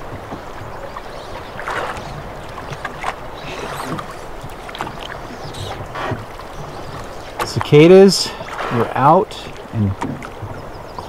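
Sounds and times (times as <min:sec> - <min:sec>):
short splashes: 0:00.0 - 0:10.5
river water running and lapping: 0:00.0 - 0:11.0.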